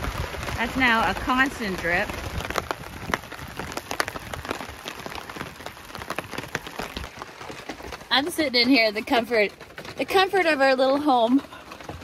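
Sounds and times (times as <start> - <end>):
drops dripping off a tarp: 0.0 - 12.0
heavy rain pattering: 0.0 - 12.0.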